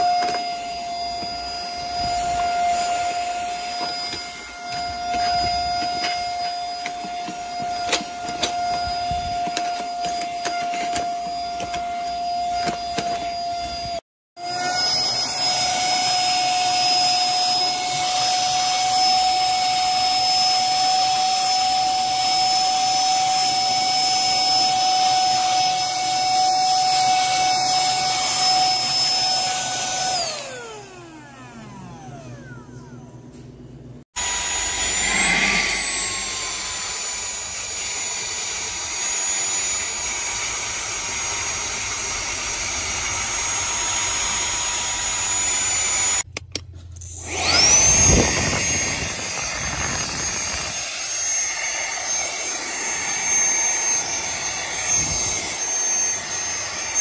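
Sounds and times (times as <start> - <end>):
handheld vacuum motor whine: 0.0 - 57.0.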